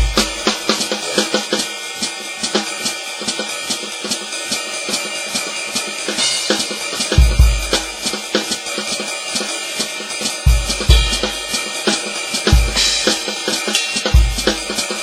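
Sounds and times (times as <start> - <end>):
cymbal crash: 0.0 - 15.0
electronic drum kit: 0.0 - 15.0.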